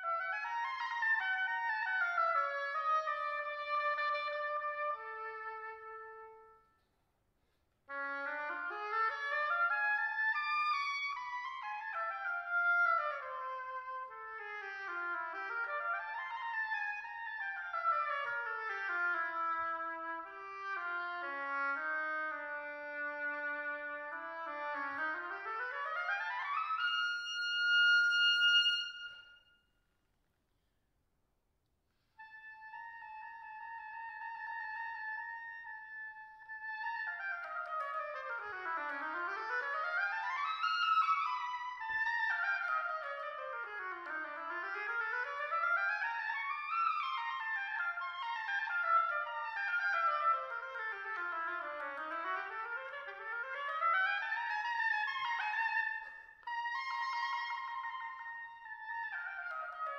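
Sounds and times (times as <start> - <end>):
solo oboe melody: 0.0 - 6.9, 7.9 - 29.6, 32.2 - 59.9.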